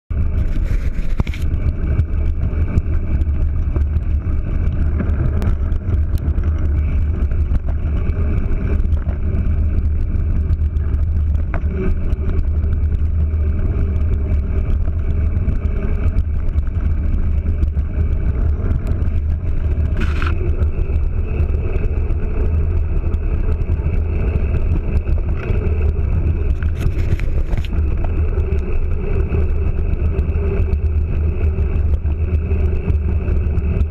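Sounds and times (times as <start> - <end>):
bicycle tyres on gravel: 0.1 - 33.9
bicycle clicks and rattles: 0.2 - 33.9.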